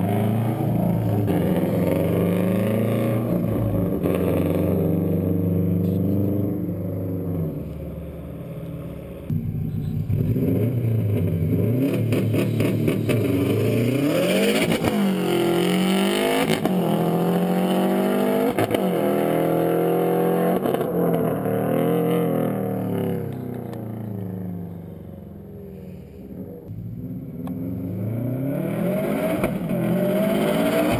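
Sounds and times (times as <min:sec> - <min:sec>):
loud car engine revving: 0:00.0 - 0:30.9.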